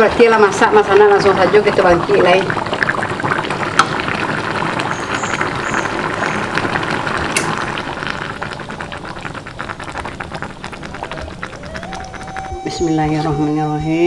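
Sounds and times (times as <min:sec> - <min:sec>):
curry bubbling in a pot: 0:00.0 - 0:13.6.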